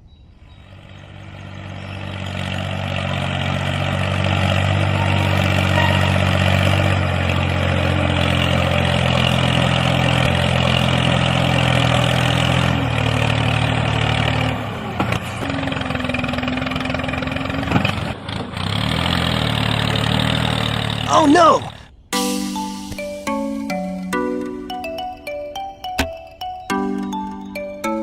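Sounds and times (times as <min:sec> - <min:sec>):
tractor engine idling: 0:00.6 - 0:28.0.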